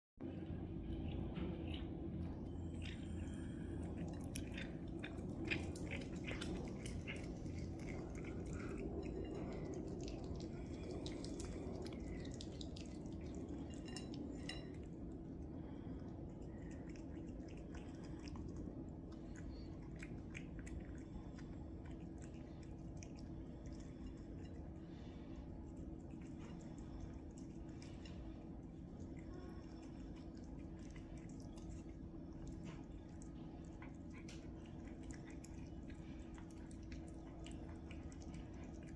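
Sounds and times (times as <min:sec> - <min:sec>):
low hum: 0:00.2 - 0:38.9
cats chewing bones: 0:00.4 - 0:38.9.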